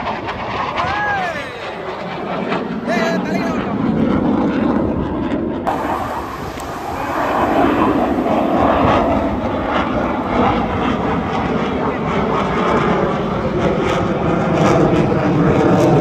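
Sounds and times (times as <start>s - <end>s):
jet aircraft flying overhead: 0.0s - 16.0s.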